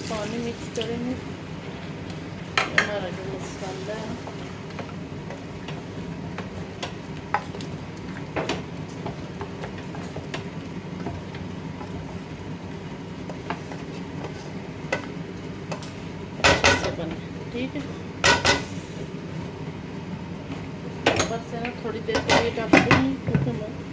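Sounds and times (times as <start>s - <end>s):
masala frying: 0.0s - 23.9s.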